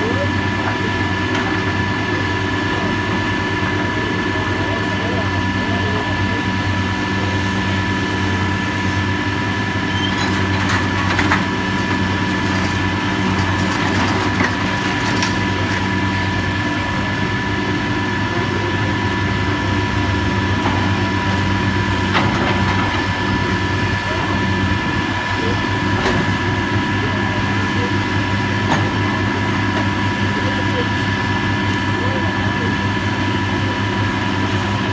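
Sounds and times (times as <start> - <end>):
demolition machinery engine hum: 0.0 - 34.9.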